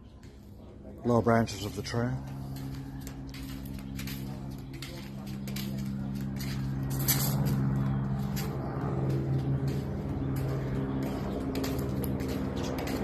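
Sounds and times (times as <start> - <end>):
steady engine drone: 0.0 - 13.0
footsteps: 1.3 - 13.0.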